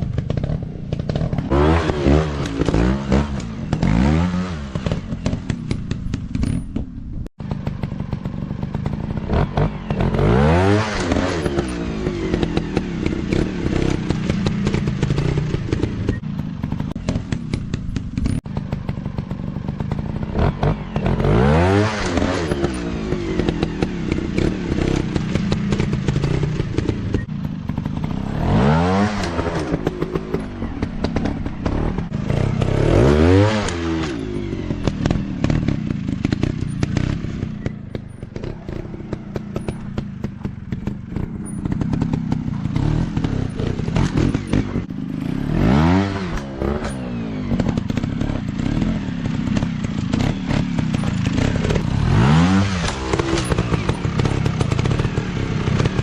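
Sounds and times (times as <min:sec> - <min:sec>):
dirt bike engines revving: 0:00.0 - 0:06.6, 0:07.5 - 0:56.0.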